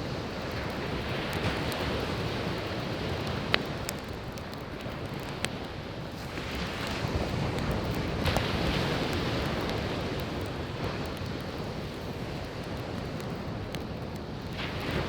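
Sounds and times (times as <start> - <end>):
campfire crackling: 0.0 - 15.0
sharp fire pops: 0.0 - 15.0
waves washing onto shore: 0.0 - 15.0.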